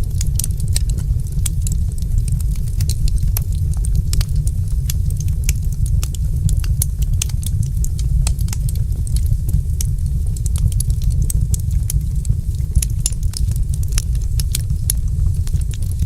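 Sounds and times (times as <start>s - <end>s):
fire popping and snapping: 0.0s - 16.0s
low rumble of burning fire: 0.0s - 16.0s
wood fire crackling: 0.0s - 16.0s.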